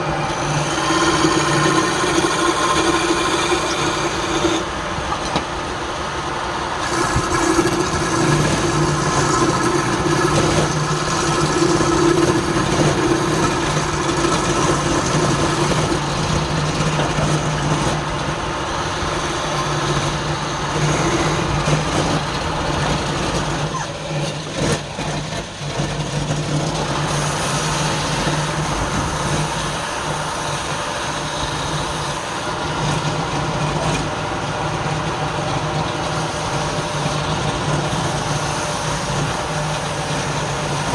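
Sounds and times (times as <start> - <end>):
wood lathe running: 0.0 - 40.9.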